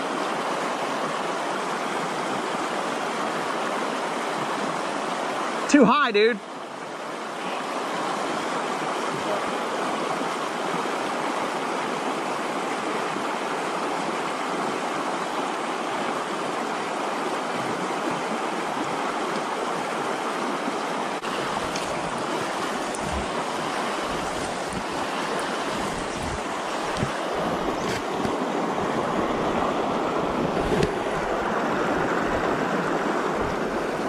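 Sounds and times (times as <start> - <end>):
river rapids rushing: 0.0 - 34.0.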